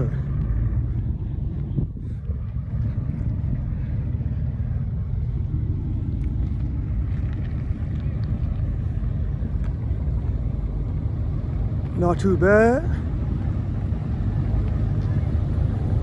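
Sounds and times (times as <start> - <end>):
car engines rumbling: 0.0 - 16.0
wind buffeting microphone: 0.0 - 16.0.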